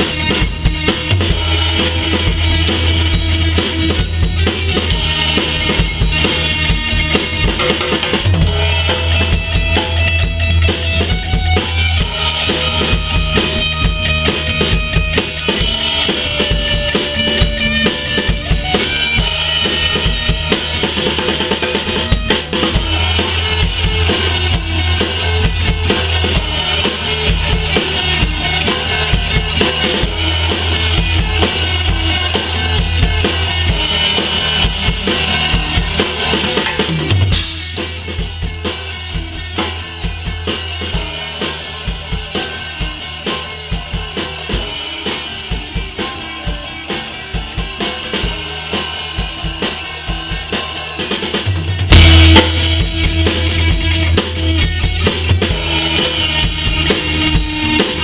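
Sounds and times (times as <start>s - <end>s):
drums: 0.0s - 58.0s
rock band playing: 0.0s - 58.0s.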